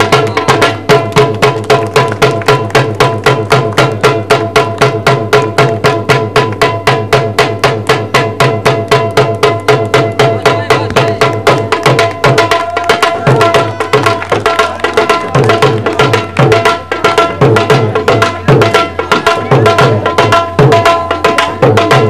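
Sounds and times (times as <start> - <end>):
drum-led folk music: 0.0 - 22.0.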